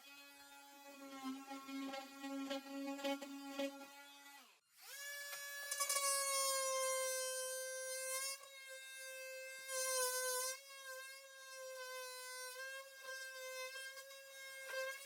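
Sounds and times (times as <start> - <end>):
power tool buzzing whine: 0.4 - 15.0.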